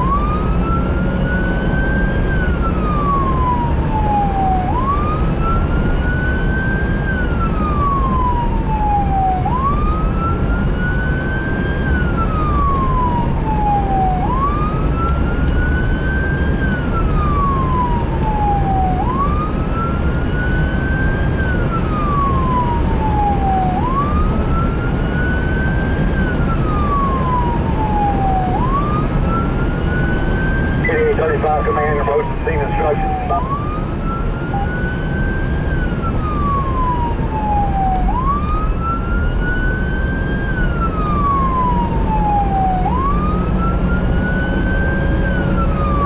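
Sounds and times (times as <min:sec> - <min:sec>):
emergency siren wailing: 0:00.0 - 0:46.0
vehicle engine and road rumble: 0:00.0 - 0:46.0.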